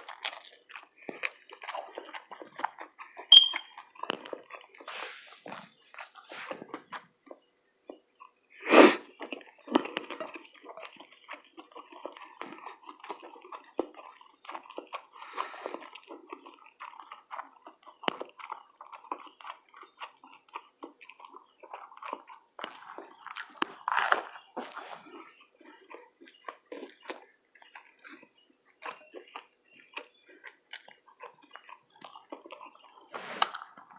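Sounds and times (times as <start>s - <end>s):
person chewing: 0.0s - 33.9s.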